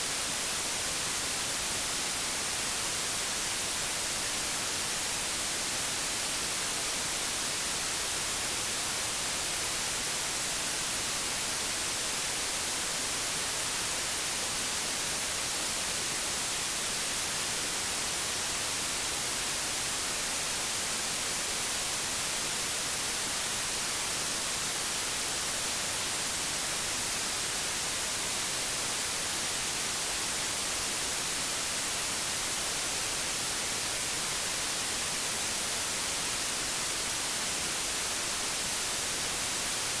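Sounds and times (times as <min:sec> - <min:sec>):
television static hiss: 0:00.0 - 0:40.0.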